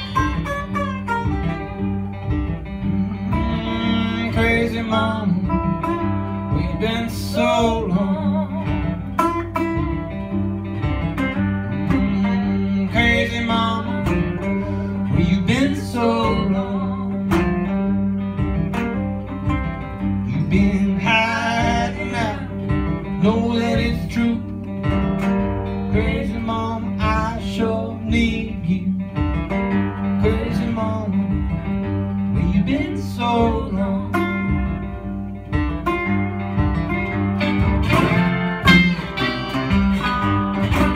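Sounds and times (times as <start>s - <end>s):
blues band playing: 0.0s - 40.9s
resonator guitar: 0.0s - 40.9s
second guitar: 0.0s - 40.9s.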